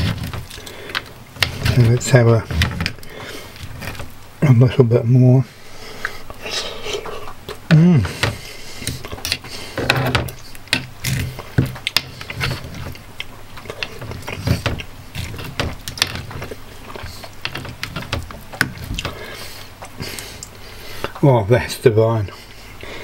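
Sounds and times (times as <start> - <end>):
pastry crackling: 0.0 - 22.8.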